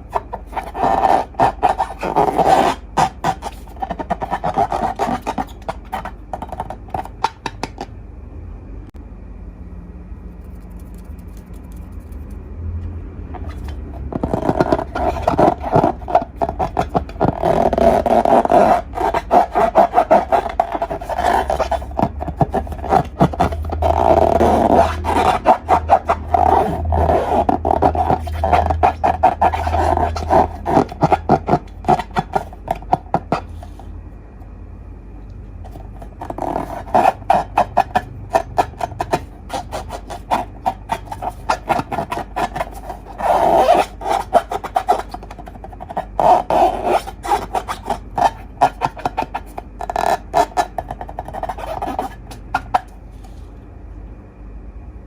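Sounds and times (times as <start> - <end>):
squeaky balloon rubbing: 0.0 - 7.9, 13.3 - 33.9, 35.6 - 53.0.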